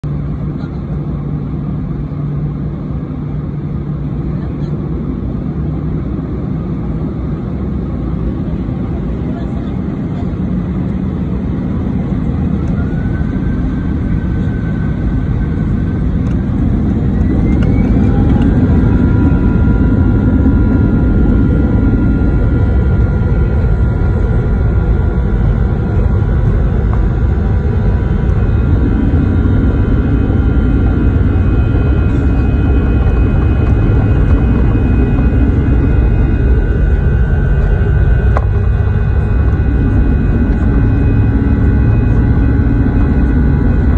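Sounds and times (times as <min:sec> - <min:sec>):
jet engines roaring with high whine: 0:00.0 - 0:43.9.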